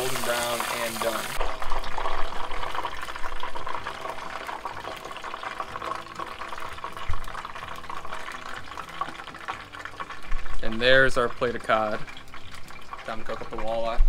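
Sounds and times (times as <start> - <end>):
oil bubbling in deep fryer: 0.0 - 14.0.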